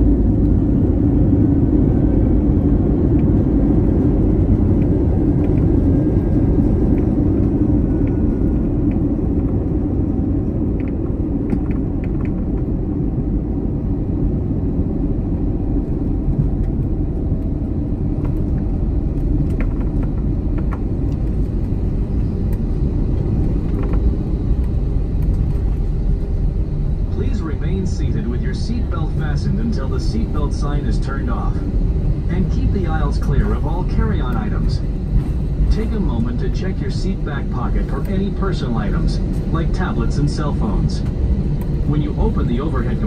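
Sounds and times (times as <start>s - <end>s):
aircraft cabin rumble: 0.0s - 43.0s.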